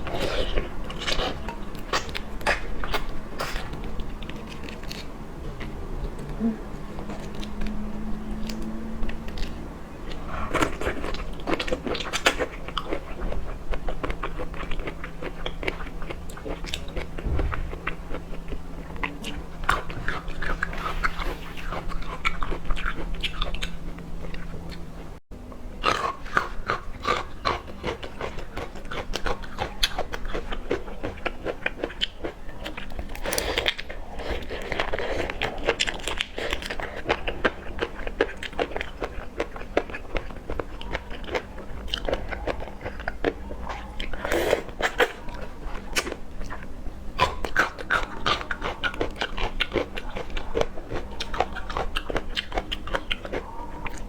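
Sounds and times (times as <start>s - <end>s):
person chewing and crunching: 0.0s - 25.2s, 25.8s - 54.0s.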